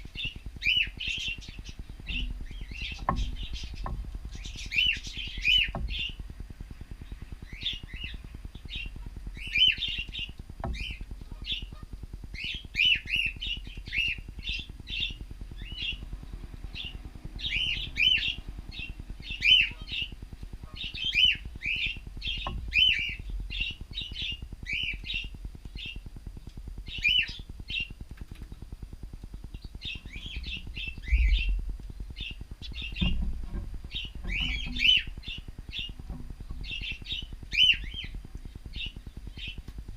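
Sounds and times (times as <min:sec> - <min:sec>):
cockatiels chirping: 0:00.1 - 0:06.3, 0:07.1 - 0:16.0, 0:16.8 - 0:26.0, 0:26.9 - 0:27.9, 0:32.2 - 0:39.7.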